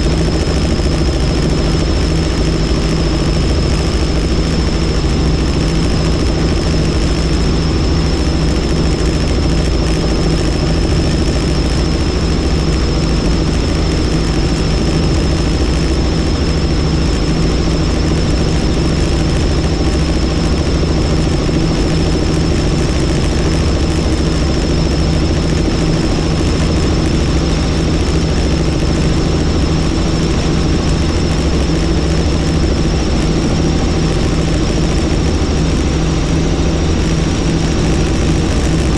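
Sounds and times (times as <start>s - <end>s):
helicopter rotor and engine noise: 0.0s - 38.9s
high turbine whine: 0.0s - 38.9s.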